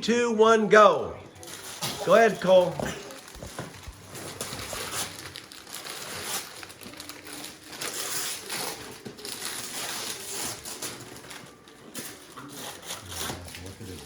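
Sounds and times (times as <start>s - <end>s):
wrapping paper tearing and crumpling: 1.4s - 14.0s.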